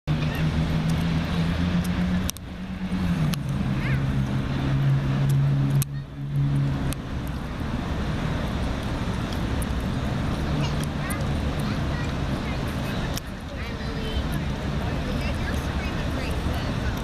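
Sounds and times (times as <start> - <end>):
road rumble: 0.0 - 17.0
vehicle engine hum: 0.0 - 17.0.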